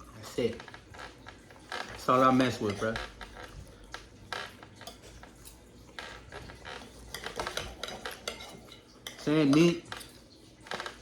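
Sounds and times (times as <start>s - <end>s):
cutlery clinking on a plate: 1.9s - 11.0s.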